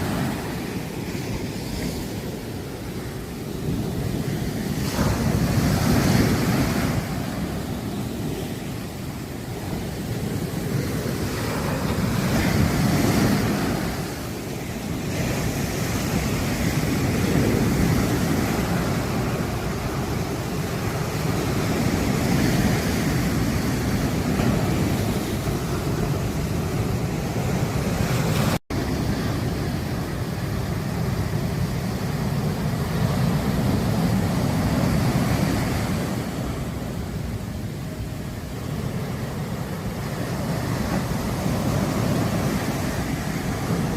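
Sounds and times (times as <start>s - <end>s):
sea waves breaking on beach: 0.0s - 43.9s.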